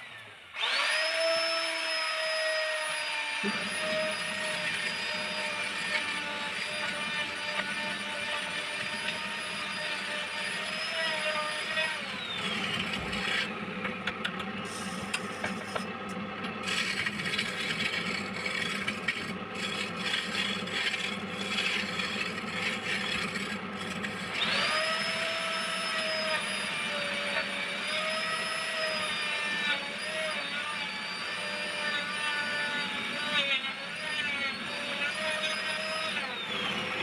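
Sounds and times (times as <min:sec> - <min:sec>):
lathe motor whining: 0:00.0 - 0:37.0
tool scraping spinning wood: 0:00.6 - 0:37.0.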